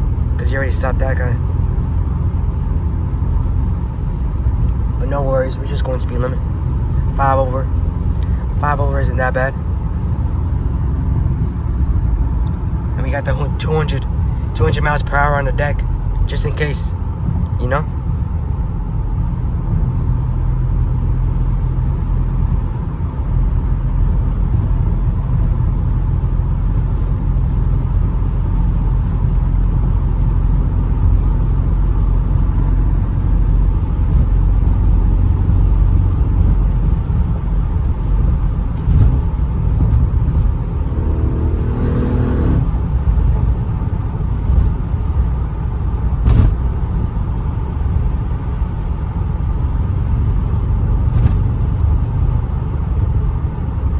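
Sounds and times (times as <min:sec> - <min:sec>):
car engine and tyres droning: 0:00.0 - 0:53.9.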